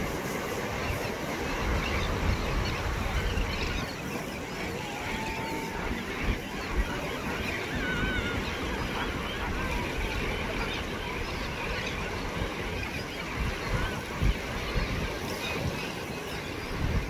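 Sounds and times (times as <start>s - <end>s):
seabirds calling: 0.0s - 17.0s
surf washing: 0.0s - 17.0s
wind buffeting microphone: 0.0s - 17.0s.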